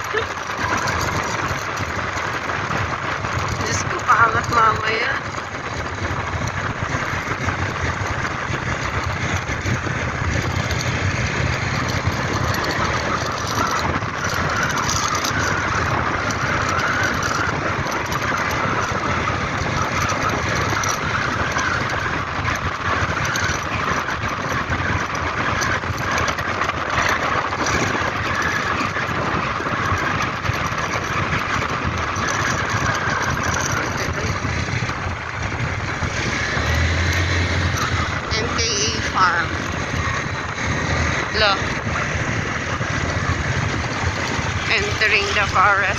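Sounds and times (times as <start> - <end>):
road noise: 0.0 - 45.9
vehicle engine: 0.0 - 45.9.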